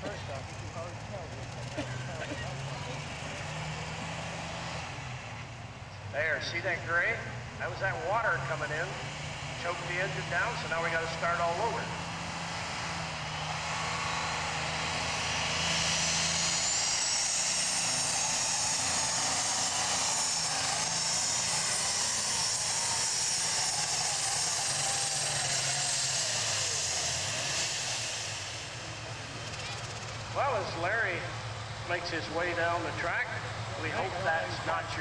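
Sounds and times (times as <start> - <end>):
high turbo whine: 0.0 - 35.0
tractor engine running: 0.0 - 35.0.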